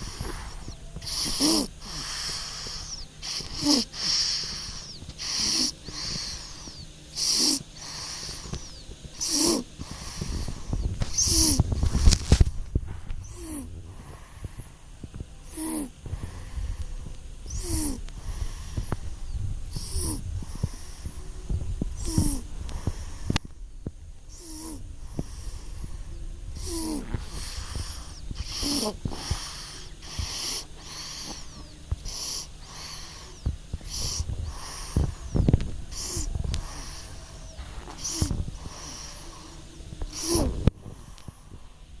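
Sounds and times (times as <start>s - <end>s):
baby snoring: 0.0s - 14.8s, 15.4s - 23.6s, 24.3s - 42.0s.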